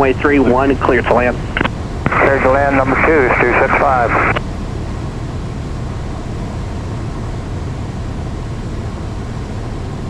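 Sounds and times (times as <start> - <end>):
airplane engine and propeller drone: 0.0 - 10.0.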